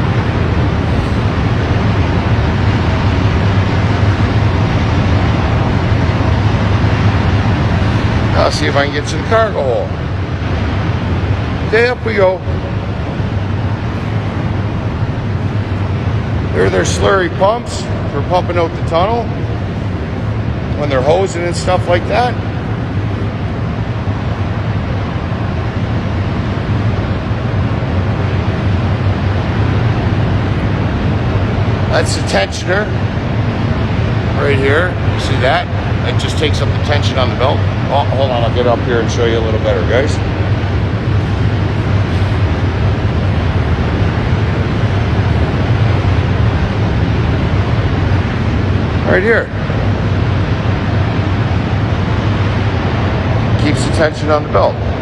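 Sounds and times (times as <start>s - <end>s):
loud machinery drone: 0.0s - 55.0s
strong low hum: 0.0s - 55.0s.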